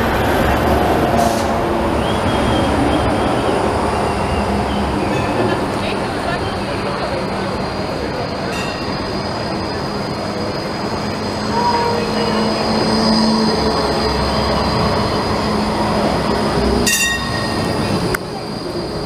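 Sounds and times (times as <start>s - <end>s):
tram wheels rumbling on rails: 0.0s - 19.0s
high wheel squeal: 1.2s - 5.7s, 7.1s - 19.0s.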